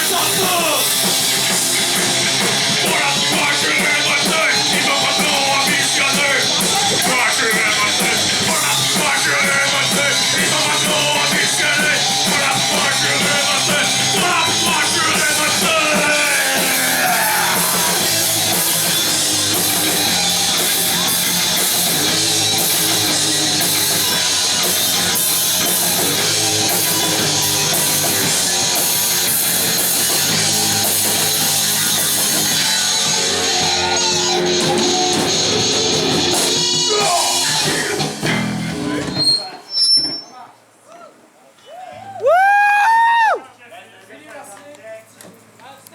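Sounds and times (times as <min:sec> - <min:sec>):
rock band playing heavy music: 0:00.0 - 0:39.3.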